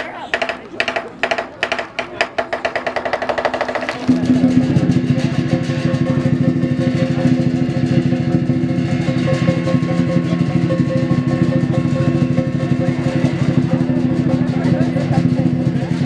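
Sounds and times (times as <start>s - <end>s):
drum roll: 0.2s - 16.0s
steady ringing tone: 0.5s - 16.0s.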